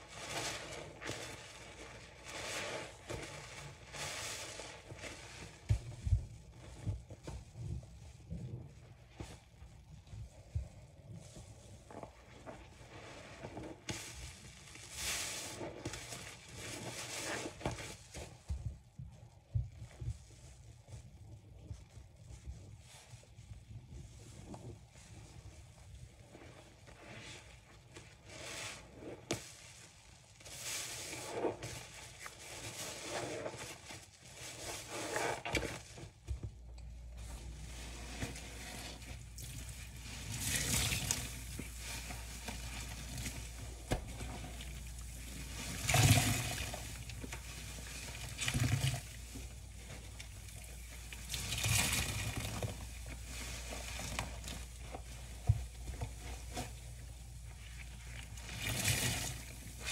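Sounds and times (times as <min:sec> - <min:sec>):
wet sponges squelching: 0:00.0 - 0:59.9.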